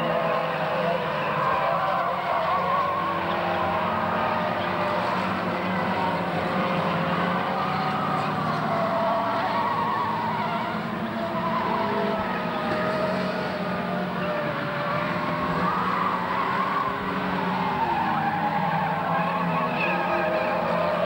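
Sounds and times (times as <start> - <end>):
race cars racing past: 0.0 - 21.0.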